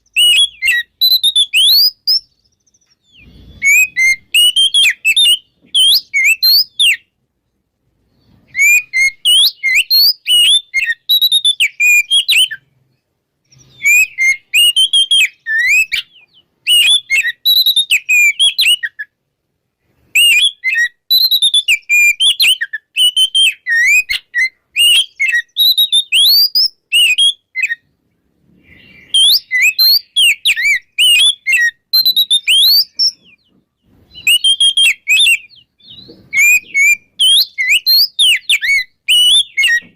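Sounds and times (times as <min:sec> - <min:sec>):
magpie-robin singing: 0:00.0 - 0:07.2, 0:08.1 - 0:19.2, 0:20.0 - 0:28.0, 0:28.6 - 0:39.9.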